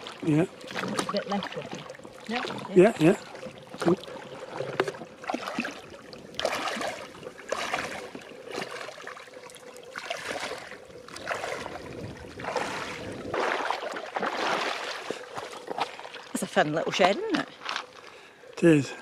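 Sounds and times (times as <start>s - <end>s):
feet wading through water: 0.0s - 18.6s.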